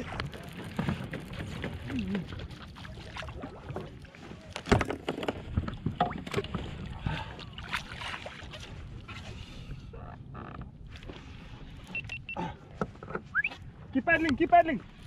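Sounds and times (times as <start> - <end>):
low rumble of wind and water: 0.0 - 15.0.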